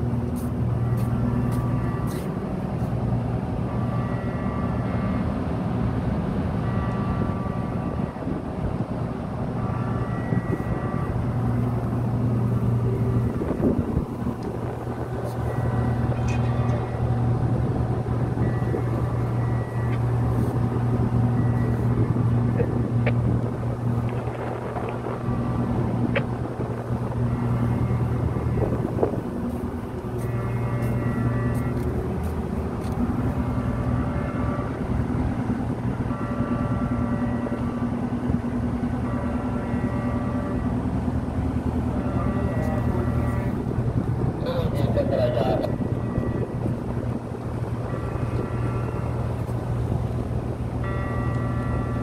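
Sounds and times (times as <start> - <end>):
ship machinery humming: 0.0 - 52.0.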